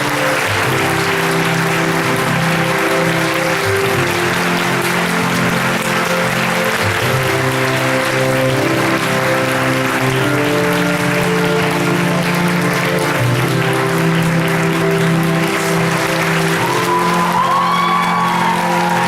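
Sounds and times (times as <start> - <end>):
audience applauding: 0.0 - 19.0
instrumental music with held notes: 0.0 - 19.0.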